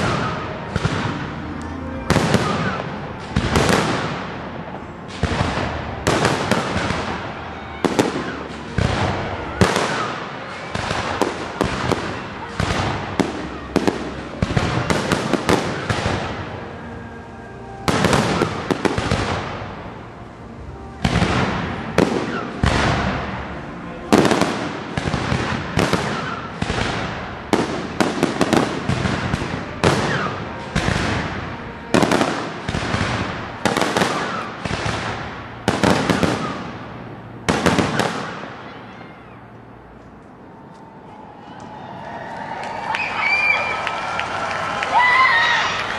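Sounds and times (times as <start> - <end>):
fireworks bursting and crackling: 0.0 - 38.7.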